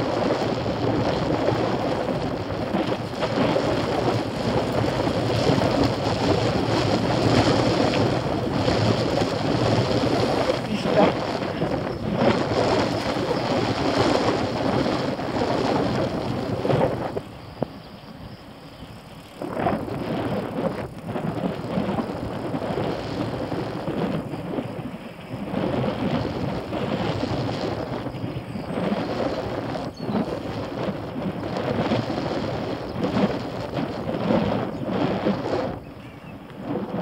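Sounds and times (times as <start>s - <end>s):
bicycle tyres rumbling on path: 0.0s - 37.0s
wind on microphone: 0.0s - 37.0s.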